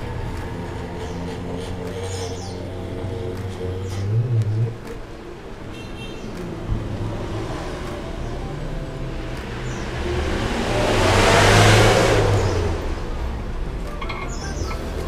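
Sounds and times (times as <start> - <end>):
broad rush of noise: 0.0 - 15.0.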